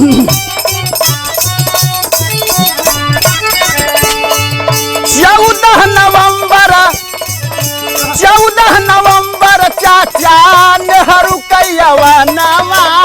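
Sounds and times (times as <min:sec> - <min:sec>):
hand drum beat: 0:00.0 - 0:10.6
person singing: 0:00.0 - 0:13.0.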